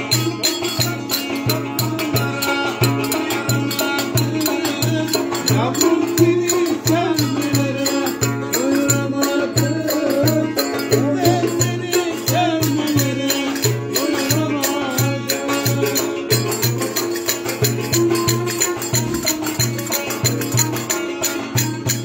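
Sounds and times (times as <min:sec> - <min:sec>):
hand drum beating: 0:00.0 - 0:22.0
long-necked lute melody: 0:00.0 - 0:22.0.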